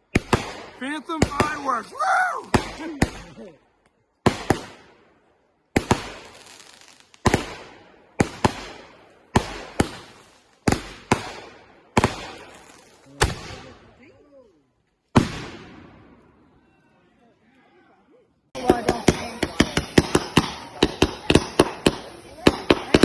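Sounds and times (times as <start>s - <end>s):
fireworks bangs echoing: 0.0s - 3.5s, 4.2s - 14.0s, 15.1s - 16.4s, 18.6s - 23.0s.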